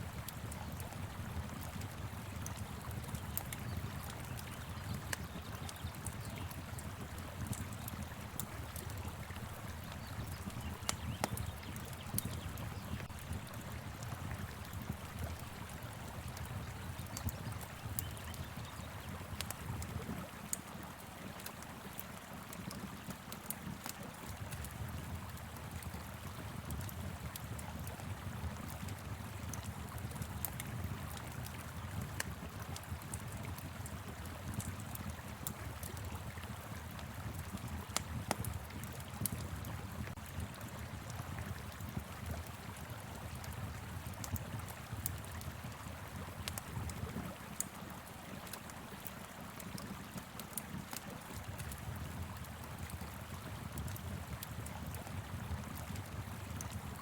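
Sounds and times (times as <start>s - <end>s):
wood fire crackling: 0.1s - 26.1s, 26.7s - 57.0s.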